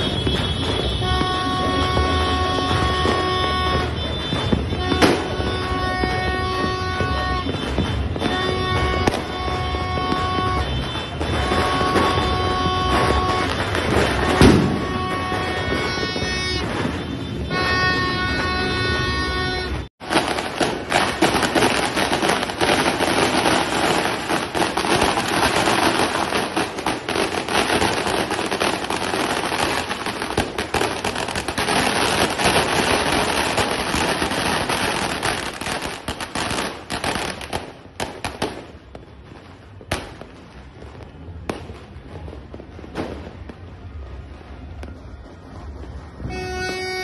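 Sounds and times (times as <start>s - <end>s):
firecrackers popping: 0.0s - 19.1s, 20.0s - 47.0s.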